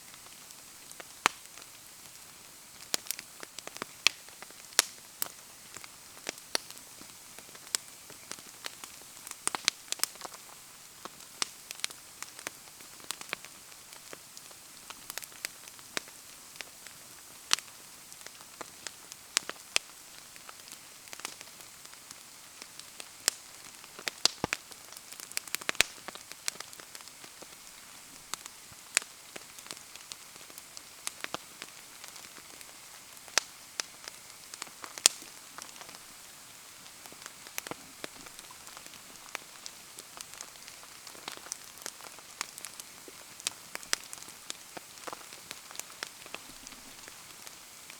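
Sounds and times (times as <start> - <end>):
steady rain: 0.0 - 47.9
fire popping and crackling: 0.1 - 47.9.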